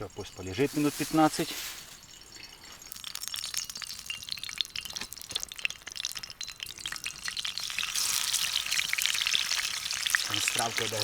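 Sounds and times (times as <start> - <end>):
small clinks: 0.0 - 8.9
food frying in a pan: 0.0 - 11.0.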